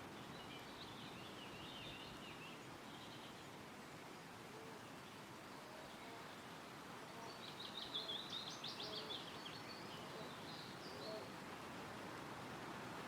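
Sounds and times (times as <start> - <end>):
songbird singing: 0.0 - 3.6, 4.7 - 11.6
wind rustling through trees: 0.0 - 13.0.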